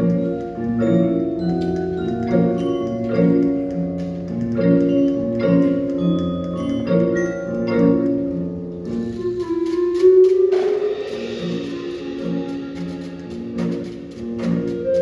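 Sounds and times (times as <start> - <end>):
mallet percussion chords: 0.0 - 15.0.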